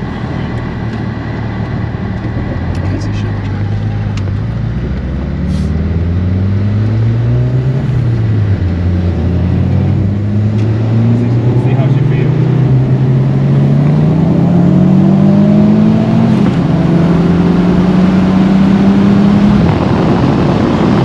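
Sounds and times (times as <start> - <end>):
car engine accelerating: 0.0 - 21.0
road noise: 0.0 - 21.0.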